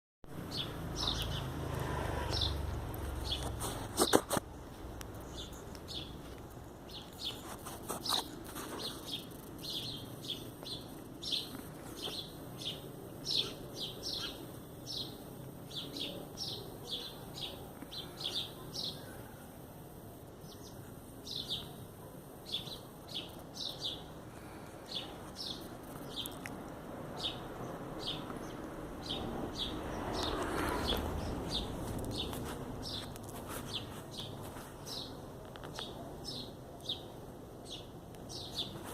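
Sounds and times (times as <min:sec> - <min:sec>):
birds chirping: 0:00.3 - 0:38.9.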